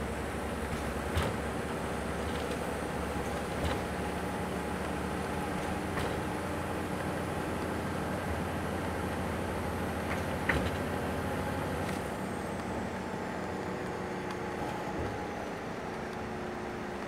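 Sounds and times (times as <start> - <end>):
tyre and engine rumble: 0.0 - 17.0.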